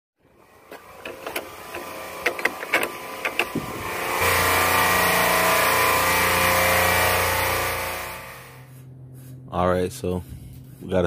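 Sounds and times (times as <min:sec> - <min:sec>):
engine-like rushing with low hum: 0:00.7 - 0:11.0.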